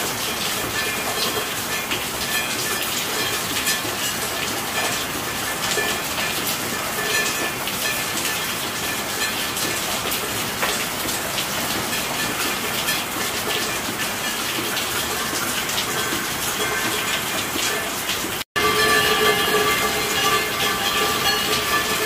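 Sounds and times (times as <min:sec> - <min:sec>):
heavy rain: 0:00.0 - 0:22.0
rain drop ticks: 0:00.0 - 0:22.0.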